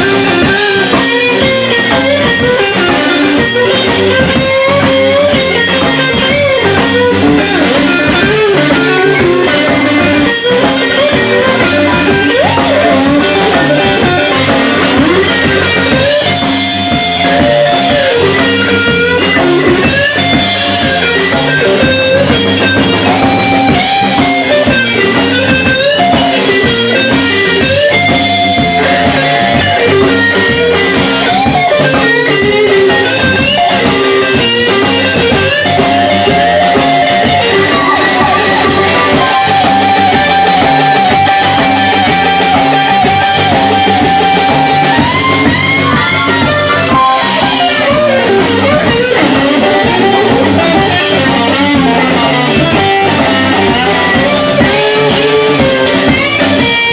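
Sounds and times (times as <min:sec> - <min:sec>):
electric guitar lead lines: 0:00.0 - 0:56.9
live blues band playing: 0:00.0 - 0:56.9
steady drum beat: 0:00.0 - 0:56.9.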